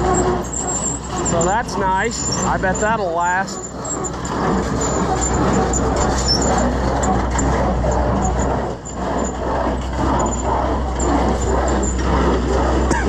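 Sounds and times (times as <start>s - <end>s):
baler mechanism turning: 0.0s - 13.0s
tractor engine running: 0.0s - 13.0s.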